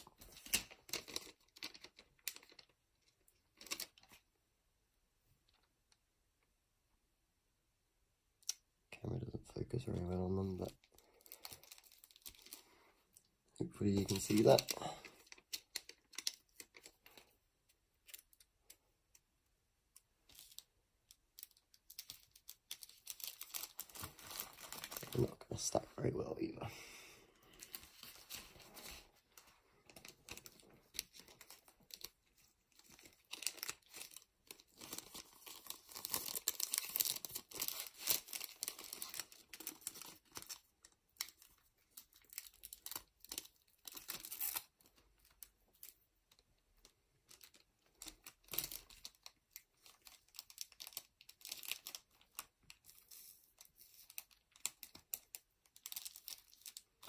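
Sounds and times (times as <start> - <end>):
plastic bags and foil packs crinkling: 0.0 - 4.3, 9.2 - 19.2, 20.0 - 26.6, 27.4 - 57.0.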